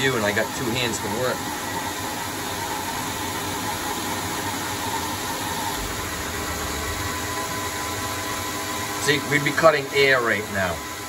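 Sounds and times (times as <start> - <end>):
lathe spindle whirring: 0.0 - 11.0.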